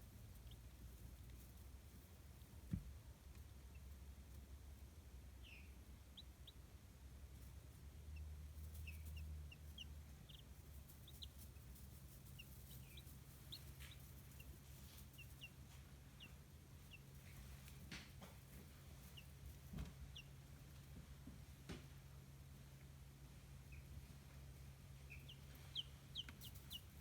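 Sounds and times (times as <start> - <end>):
chicks peeping: 0.0 - 21.0, 23.6 - 27.0.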